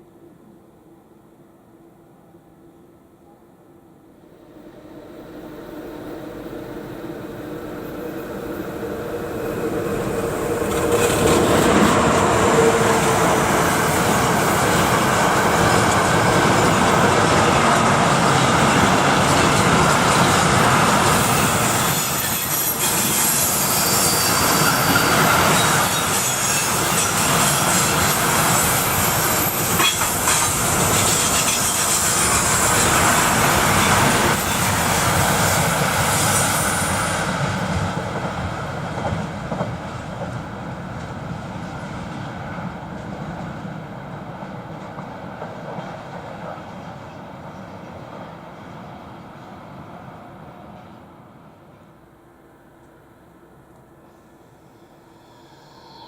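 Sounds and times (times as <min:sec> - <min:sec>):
train wagons rolling past: 0:04.3 - 0:51.9.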